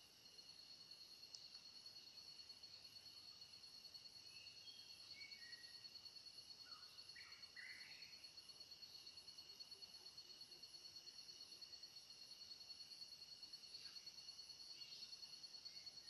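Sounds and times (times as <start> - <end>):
insects humming: 0.0 - 16.0
insects trilling: 0.0 - 16.0.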